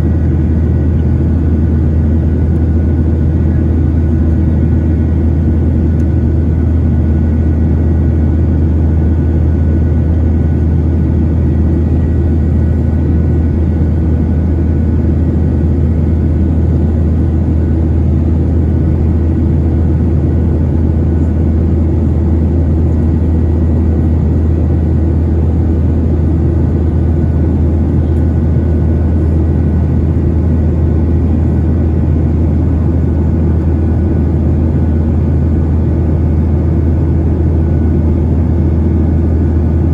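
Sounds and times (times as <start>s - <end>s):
aircraft engines droning: 0.0s - 39.9s
faint steady whine: 0.0s - 39.9s.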